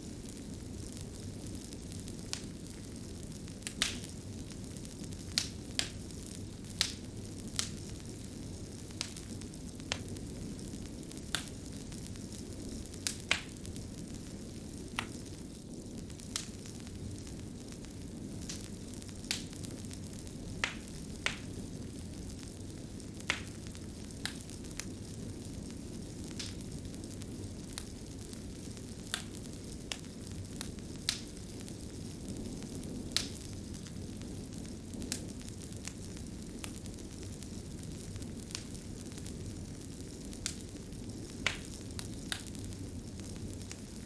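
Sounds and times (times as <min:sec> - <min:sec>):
fire crackling and popping: 0:00.0 - 0:44.0.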